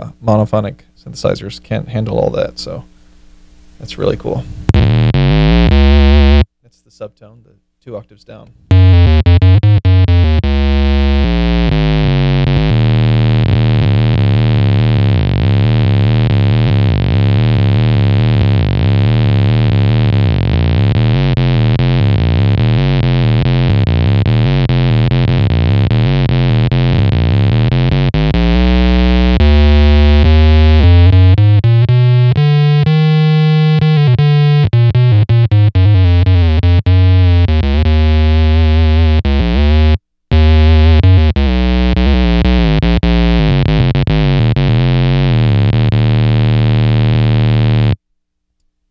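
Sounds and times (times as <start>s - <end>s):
buzzy synth-like electric guitar: 4.7s - 6.5s, 8.7s - 48.0s.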